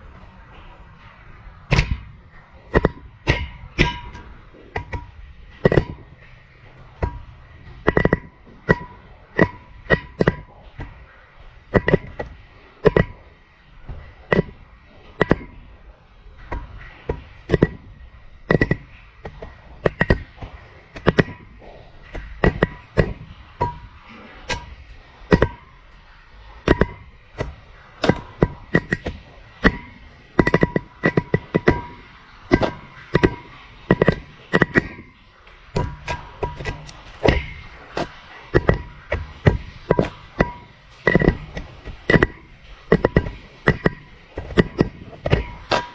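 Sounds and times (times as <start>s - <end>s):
camera knocking inside pipe: 1.6s - 15.7s, 16.4s - 45.9s.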